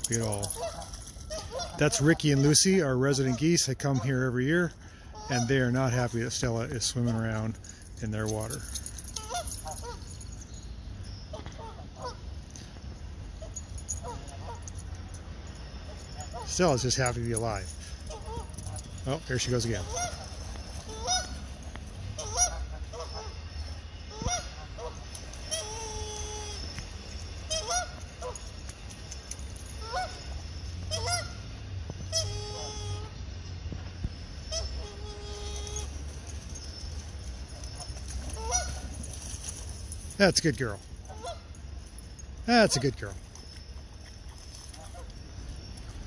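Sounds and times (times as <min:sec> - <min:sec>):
geese honking: 0:00.1 - 0:07.5, 0:08.2 - 0:10.3, 0:11.1 - 0:12.6, 0:13.3 - 0:15.1, 0:15.8 - 0:33.3, 0:34.3 - 0:41.6, 0:42.5 - 0:45.7.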